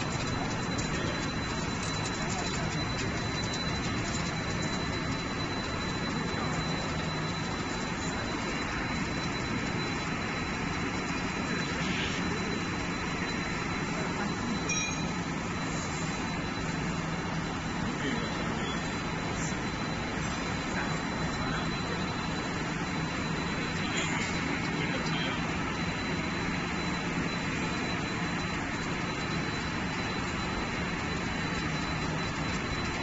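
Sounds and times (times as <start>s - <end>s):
high steady whine: 0.0s - 33.0s.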